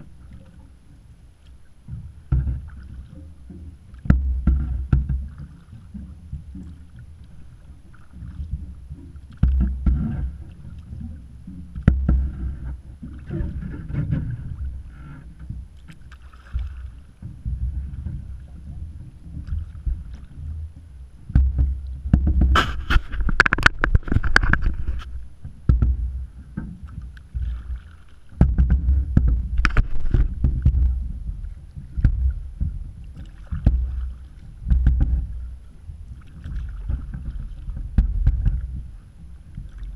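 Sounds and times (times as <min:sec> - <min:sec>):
paddle strokes splashing: 0:00.0 - 0:39.9
water slapping against hull: 0:00.0 - 0:39.9
wind rumbling on microphone: 0:00.0 - 0:39.9.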